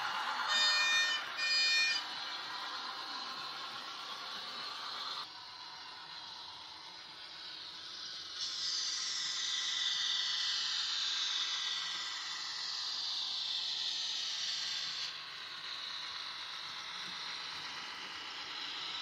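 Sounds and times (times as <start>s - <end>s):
model train motor whirring: 0.0s - 19.0s
wheel noise on rails: 0.0s - 19.0s.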